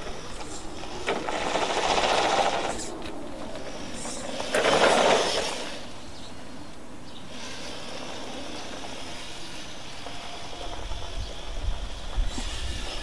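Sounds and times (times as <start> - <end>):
toy car motor whirring: 0.0 - 6.4, 7.2 - 13.0.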